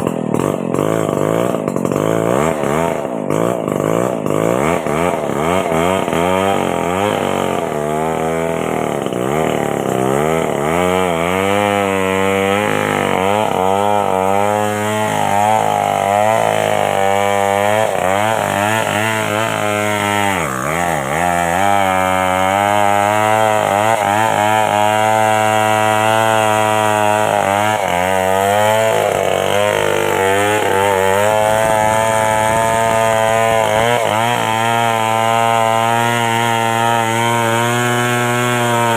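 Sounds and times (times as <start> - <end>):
chainsaw cutting under load: 0.0 - 38.9.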